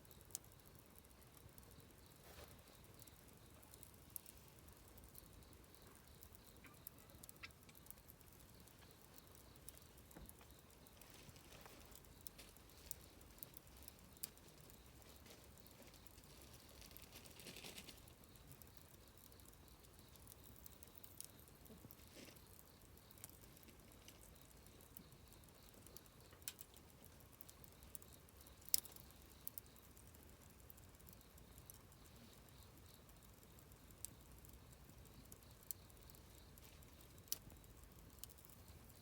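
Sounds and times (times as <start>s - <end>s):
campfire crackling: 0.0s - 39.0s
fire hissing: 0.2s - 39.0s.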